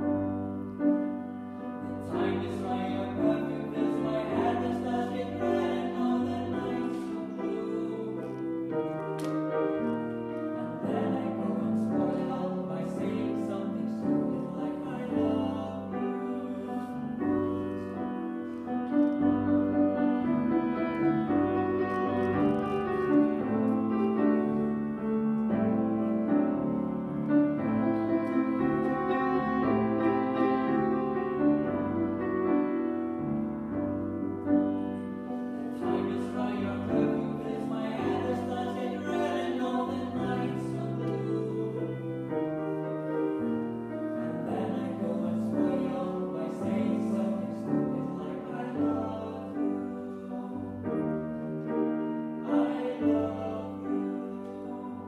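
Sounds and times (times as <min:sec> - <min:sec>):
grand piano: 0:00.0 - 0:55.0.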